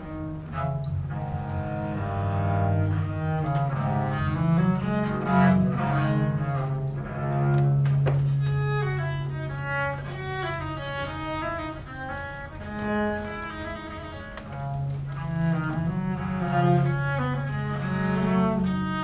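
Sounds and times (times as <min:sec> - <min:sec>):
bowed viola da gamba melody: 0:00.0 - 0:19.0.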